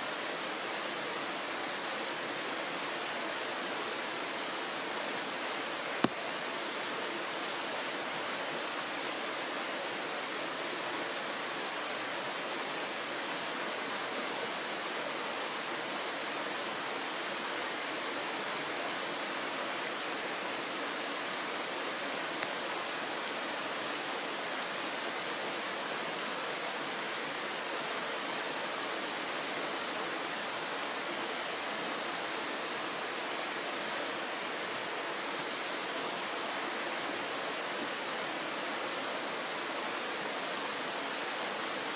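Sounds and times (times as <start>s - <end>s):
stream rushing over stones: 0.0s - 41.9s.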